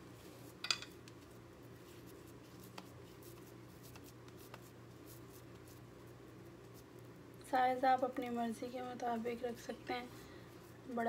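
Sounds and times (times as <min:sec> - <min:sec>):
hands rubbing dough: 0:00.0 - 0:11.0
low steady hum: 0:00.0 - 0:11.0.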